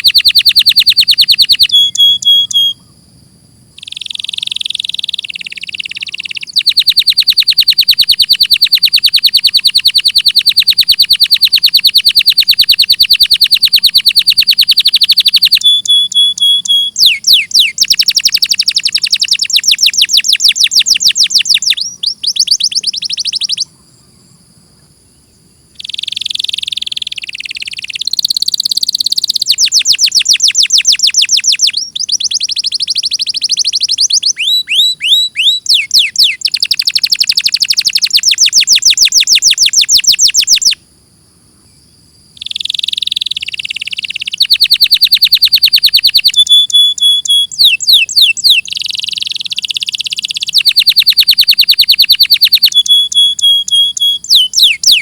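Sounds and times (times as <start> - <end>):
canary singing fast trills: 0.0 - 40.8, 42.3 - 55.0.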